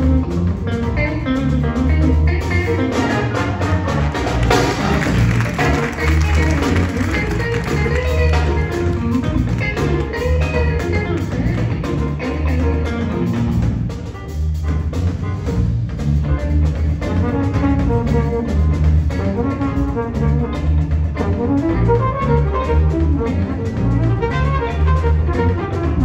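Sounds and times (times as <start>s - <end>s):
brass and saxophones: 0.0s - 13.0s, 16.9s - 26.0s
bass line: 0.0s - 26.0s
big band funk tune: 0.0s - 26.0s
drum kit: 0.0s - 26.0s.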